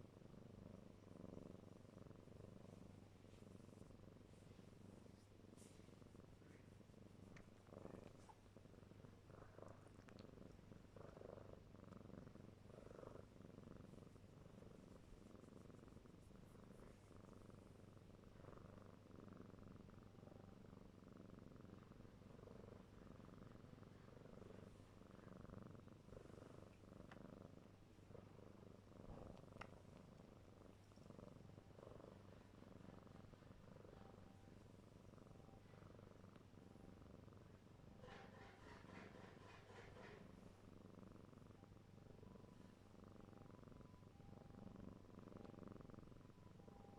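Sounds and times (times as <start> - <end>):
kitten purring: 0.0 - 46.9.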